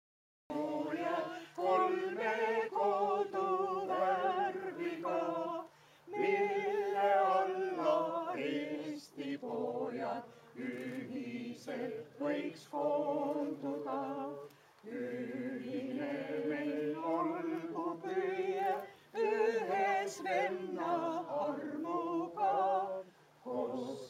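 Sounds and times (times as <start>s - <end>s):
group singing unaccompanied: 0.5s - 24.0s.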